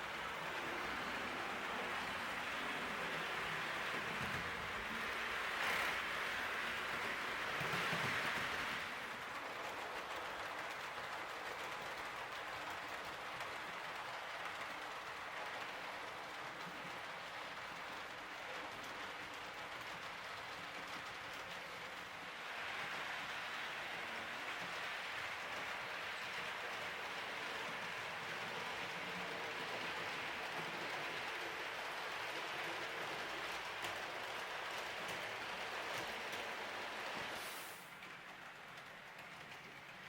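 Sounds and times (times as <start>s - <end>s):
model train rolling on track: 0.0s - 40.0s.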